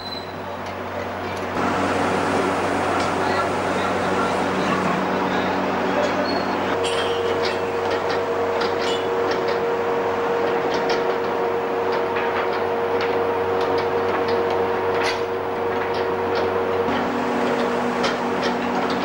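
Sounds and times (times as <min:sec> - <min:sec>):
continuous rushing noise: 0:00.4 - 0:19.0
held humming tone: 0:01.4 - 0:19.0.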